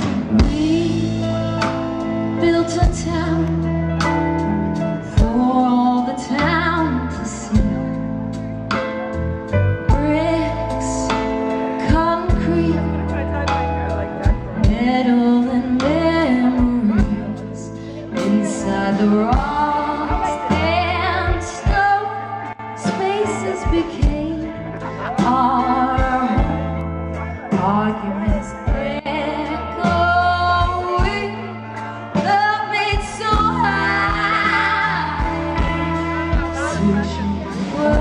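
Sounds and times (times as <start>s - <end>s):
woman singing with vibrato: 0.0s - 3.7s, 5.0s - 8.0s, 9.9s - 13.0s, 14.6s - 26.8s, 27.4s - 38.0s
held bass notes: 0.0s - 38.0s
live band music: 0.0s - 38.0s.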